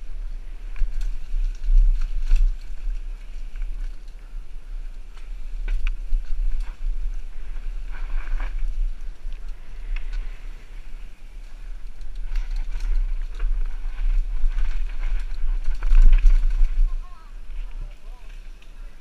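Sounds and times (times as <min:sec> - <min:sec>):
bike rattling over rocks: 0:00.0 - 0:19.0
wind rumble on microphone: 0:00.0 - 0:19.0.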